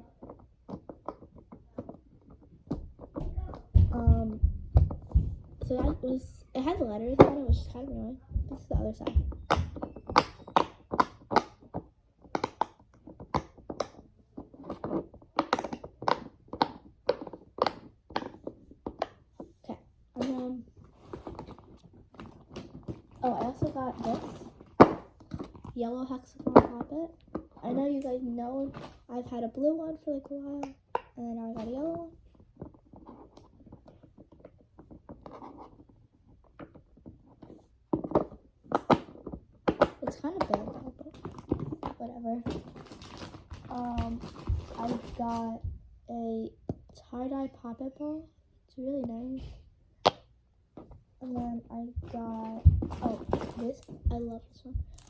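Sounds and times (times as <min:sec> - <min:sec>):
handling sounds: 0:00.0 - 0:29.6, 0:30.6 - 0:45.7, 0:50.8 - 0:55.0.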